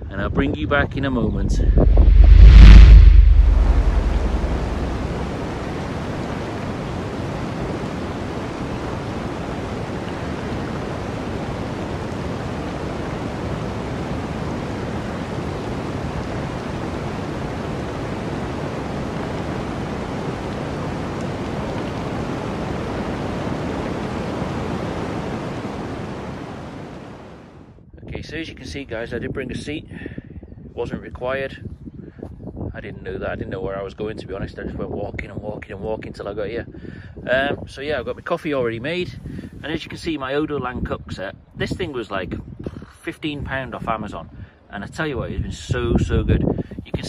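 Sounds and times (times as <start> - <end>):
rushing wind: 0.0 - 31.0, 31.6 - 38.2, 38.9 - 47.0.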